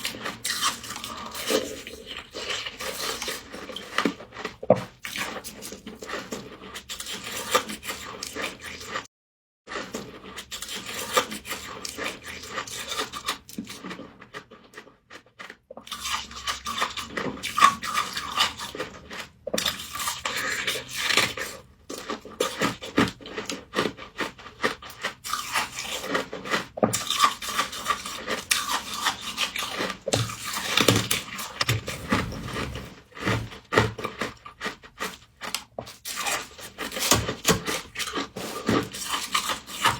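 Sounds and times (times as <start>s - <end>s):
frost being chewed: 0.0s - 9.1s, 9.7s - 39.9s.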